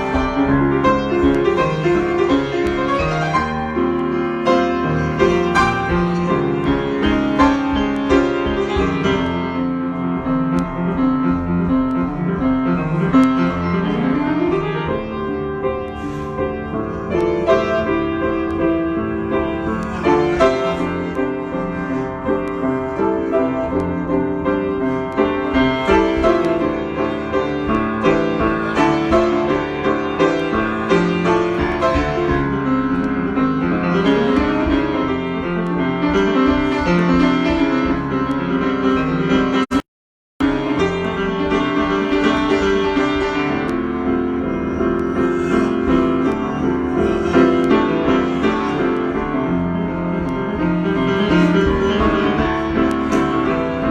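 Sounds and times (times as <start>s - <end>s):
piano playing: 0.0s - 39.8s, 40.4s - 53.9s.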